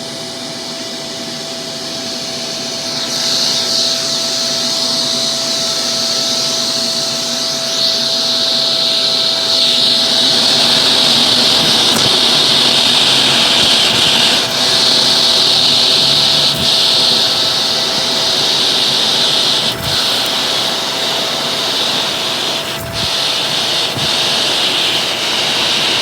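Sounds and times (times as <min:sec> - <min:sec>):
upright vacuum cleaner running: 0:00.0 - 0:26.0.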